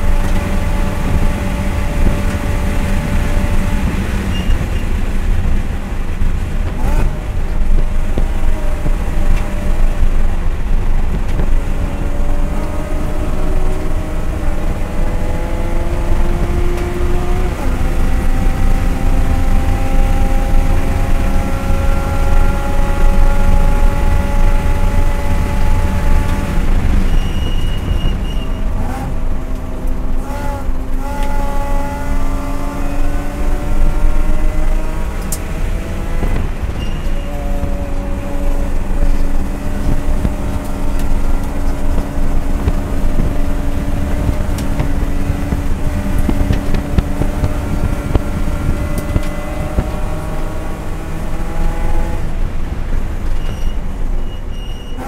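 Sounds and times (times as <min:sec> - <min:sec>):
race car engine at full throttle: 0:00.0 - 0:55.0
road and wind rumble: 0:00.0 - 0:55.0.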